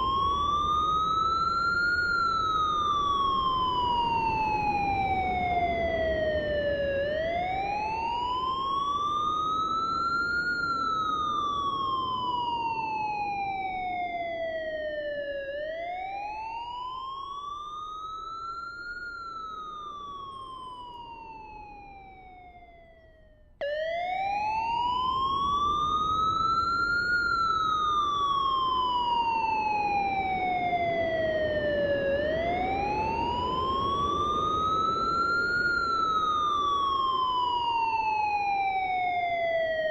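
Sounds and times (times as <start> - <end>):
electronic siren wailing: 0.0 - 39.9.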